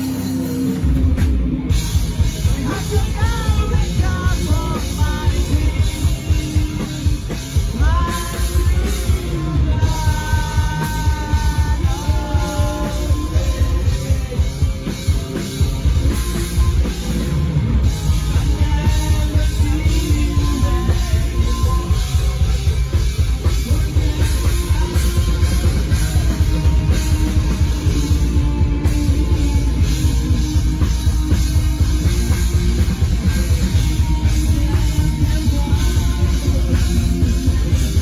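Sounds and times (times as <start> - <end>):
drum kit and bass beat: 0.0 - 38.0
rock band playing: 0.0 - 38.0
person singing: 2.2 - 38.0.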